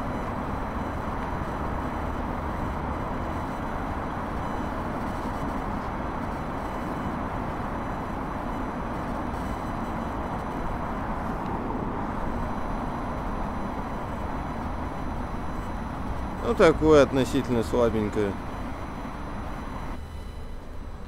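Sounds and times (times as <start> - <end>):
radio interference hiss: 0.0 - 20.3.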